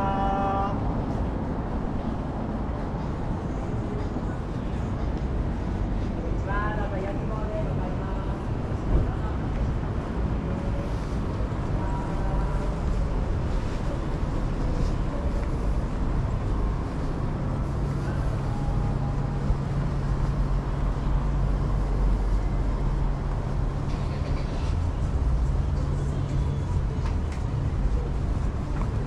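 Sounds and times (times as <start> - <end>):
city traffic: 0.0 - 29.0
low engine hum: 0.0 - 29.0.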